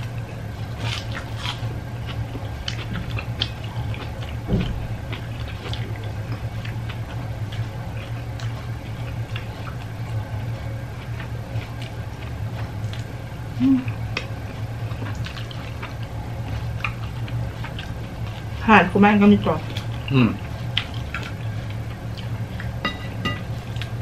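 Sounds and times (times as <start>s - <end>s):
low hum: 0.0s - 24.0s
wet chewing smacks: 0.2s - 18.6s, 19.6s - 24.0s.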